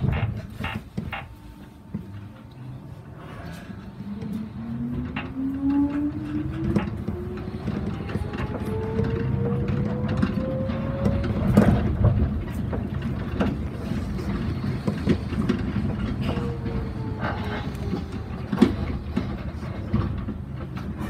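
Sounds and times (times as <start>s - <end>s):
knocks and clicks from guideway: 0.0s - 2.3s, 4.1s - 21.0s
people-mover running rumble: 0.0s - 21.0s.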